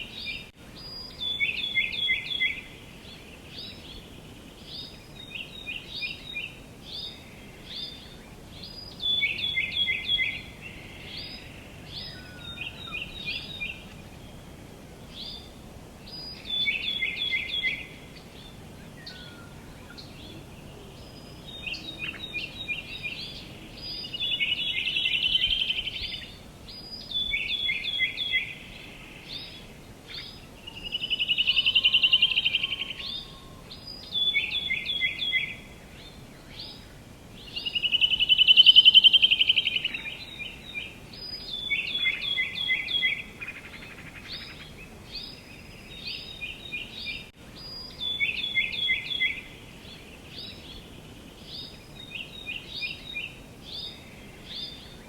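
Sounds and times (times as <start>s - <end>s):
faint steady background hiss: 0.0s - 55.0s
songbirds singing: 0.0s - 55.0s.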